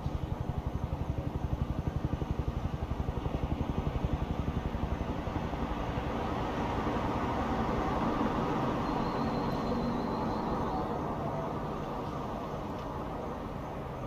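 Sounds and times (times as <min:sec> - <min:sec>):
town noise hum: 0:00.0 - 0:14.0.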